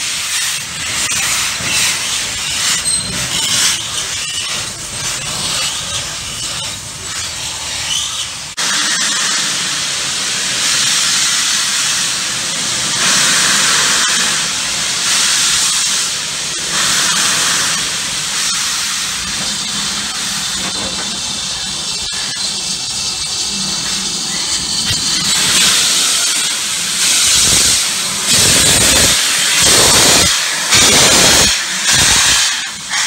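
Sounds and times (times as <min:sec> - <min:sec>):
steam hissing from locomotive: 0:00.0 - 0:33.0.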